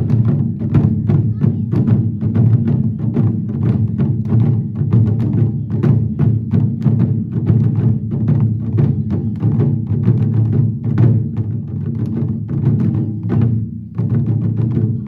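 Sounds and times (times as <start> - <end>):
taiko drums beating: 0.0 - 15.0.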